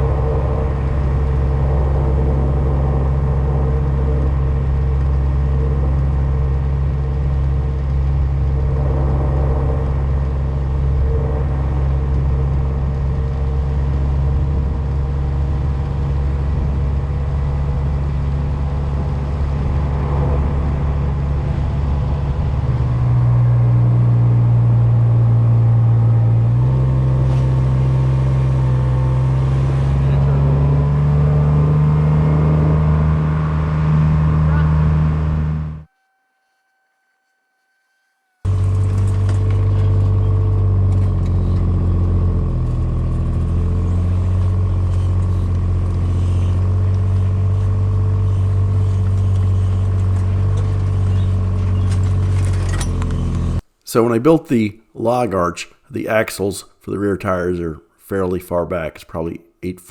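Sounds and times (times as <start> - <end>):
diesel engine running: 0.0 - 35.9, 38.5 - 53.6.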